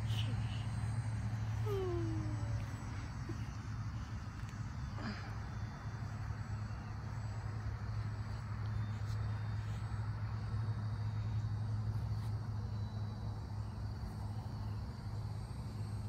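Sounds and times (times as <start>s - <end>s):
model plane motor droning: 0.0s - 16.0s.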